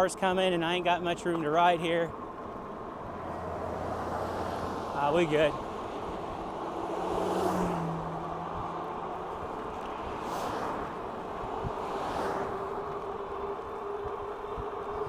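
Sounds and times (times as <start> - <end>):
passing vehicles: 0.0 - 15.0
wind rushing over microphone: 2.4 - 15.0.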